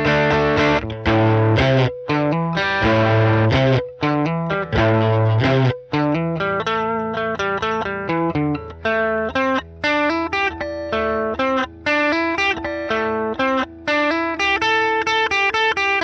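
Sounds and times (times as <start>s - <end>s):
fuzzed electric guitar notes: 0.0s - 16.0s.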